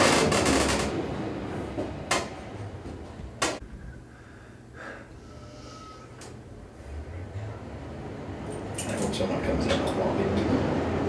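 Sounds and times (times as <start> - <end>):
elevator low steady hum: 0.0 - 11.0.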